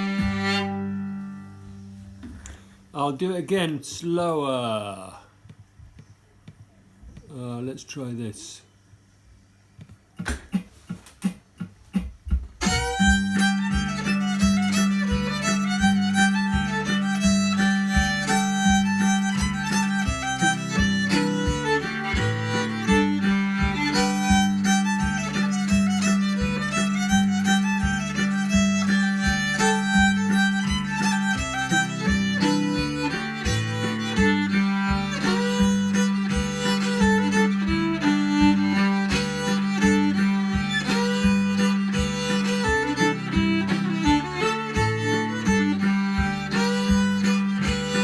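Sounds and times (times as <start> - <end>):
fiddle playing a tune: 0.0 - 4.8, 12.6 - 48.0.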